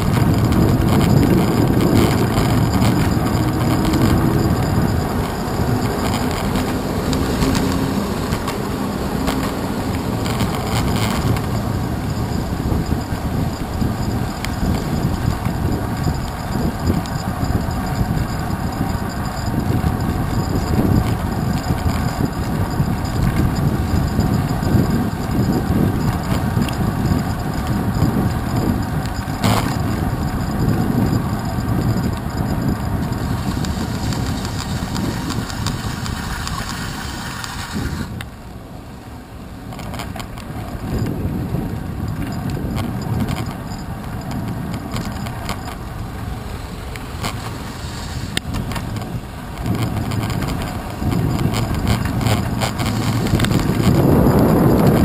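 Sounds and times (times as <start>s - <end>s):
bicycle knocks and rattles: 0.0s - 38.4s, 39.6s - 55.0s
car engine: 0.0s - 55.0s
wind and tyres rumbling: 0.0s - 55.0s.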